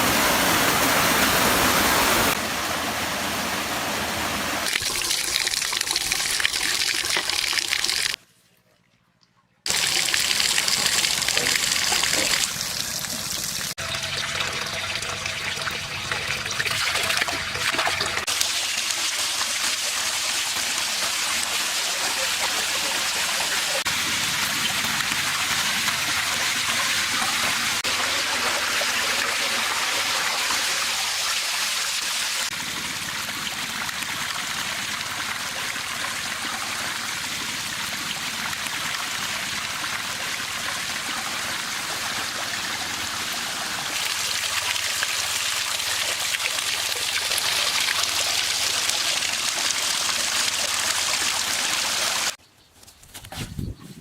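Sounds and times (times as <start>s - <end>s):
small waterfall splashing: 0.0s - 8.2s, 9.7s - 52.4s.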